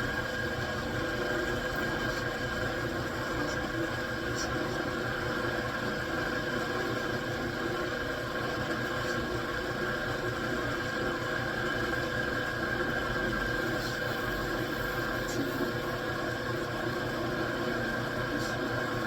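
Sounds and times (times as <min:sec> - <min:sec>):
high machine whine: 0:00.0 - 0:19.0.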